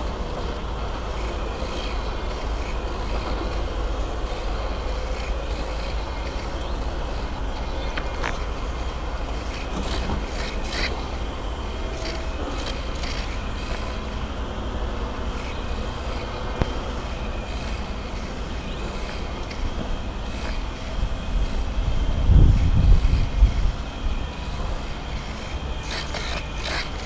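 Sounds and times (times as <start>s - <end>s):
wind rumble: 0.0s - 27.0s.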